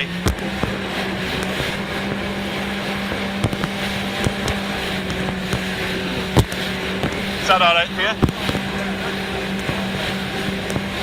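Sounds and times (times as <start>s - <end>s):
jet ski engine droning: 0.0s - 11.0s
rushing water: 0.0s - 11.0s.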